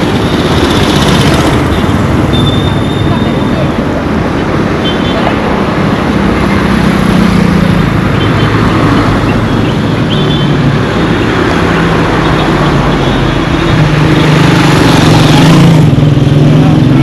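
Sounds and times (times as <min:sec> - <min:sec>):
roar of passing traffic: 0:00.0 - 0:17.0.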